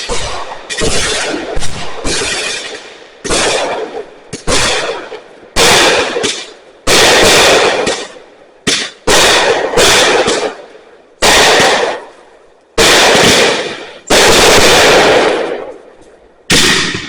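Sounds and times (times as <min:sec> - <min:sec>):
loud firework bangs: 0:00.0 - 0:15.9, 0:16.5 - 0:17.0.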